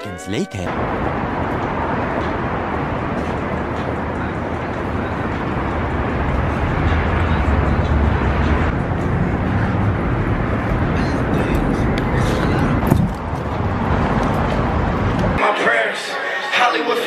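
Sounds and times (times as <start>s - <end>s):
rumble of passing vehicles: 0.8s - 15.4s.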